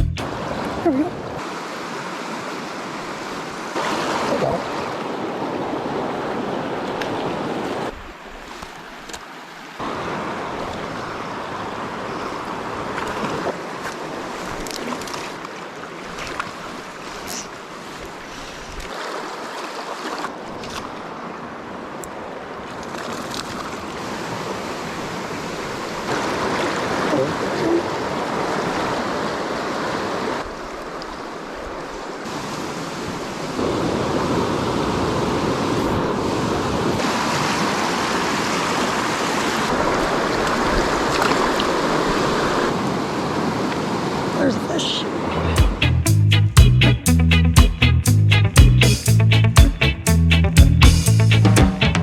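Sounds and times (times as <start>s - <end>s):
creek water rushing: 0.2s - 47.2s.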